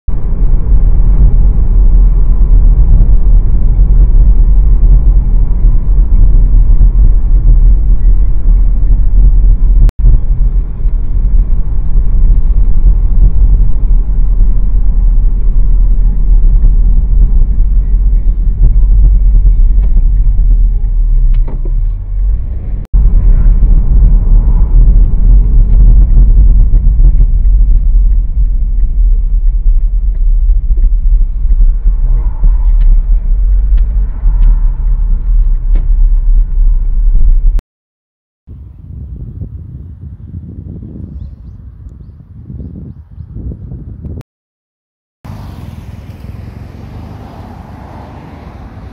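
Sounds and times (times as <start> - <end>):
car road and engine rumble: 0.1 - 37.6, 45.3 - 48.9.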